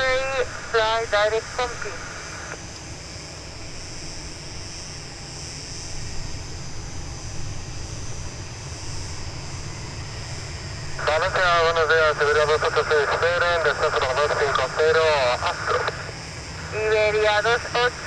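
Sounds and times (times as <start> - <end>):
distant jet engine rumble: 0.0 - 18.0.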